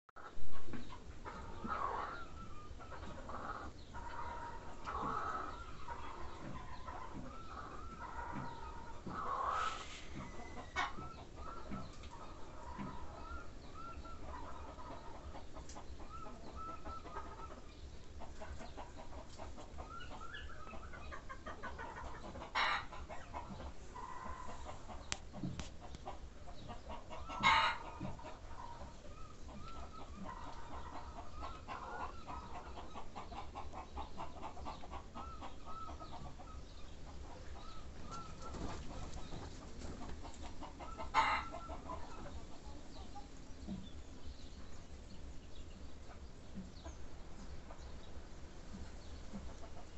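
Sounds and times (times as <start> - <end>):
birds calling: 0.2 - 49.9.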